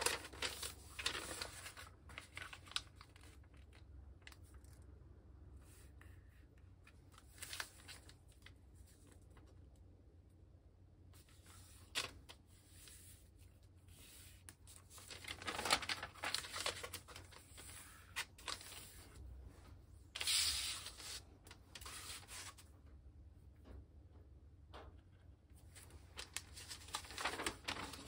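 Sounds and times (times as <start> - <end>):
paper rustling on a cutting mat: 0.0 - 4.8, 5.6 - 9.5, 11.2 - 22.7, 25.6 - 28.0.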